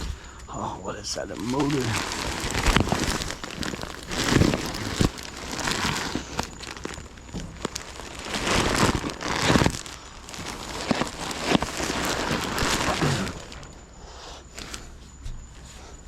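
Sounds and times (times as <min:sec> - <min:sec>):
rummaging through boxes and trash: 0:00.0 - 0:16.0.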